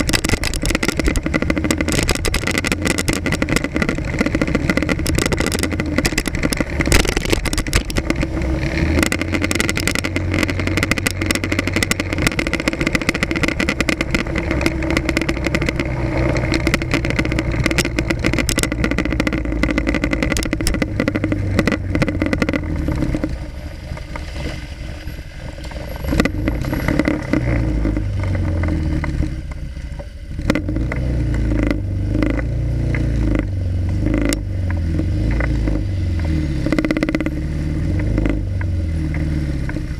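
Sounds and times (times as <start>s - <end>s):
motorcycle engine running: 0.0s - 39.9s
sharp rattles and clicks: 0.0s - 39.9s.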